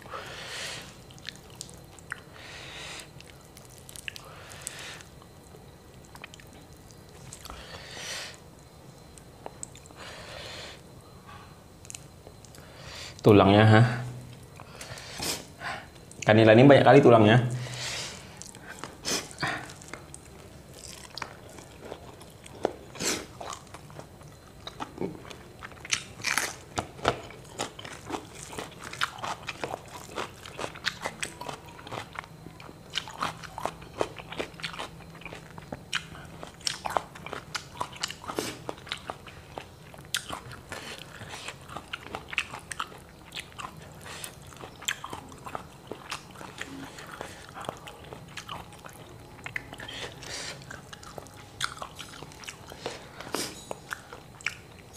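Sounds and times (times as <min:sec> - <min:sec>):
person chewing crunchy food: 0:00.0 - 0:10.8, 0:17.7 - 0:54.9
steady low hum: 0:00.0 - 0:54.9.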